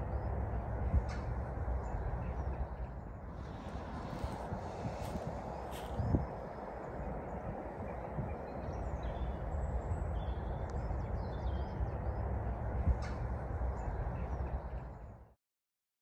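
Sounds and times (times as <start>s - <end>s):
low outdoor rumble: 0.0s - 15.4s.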